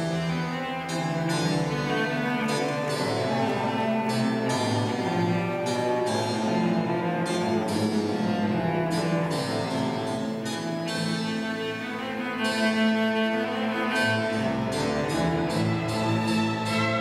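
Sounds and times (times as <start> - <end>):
solo cello: 0.0 - 17.0
string orchestra accompanying: 0.0 - 17.0.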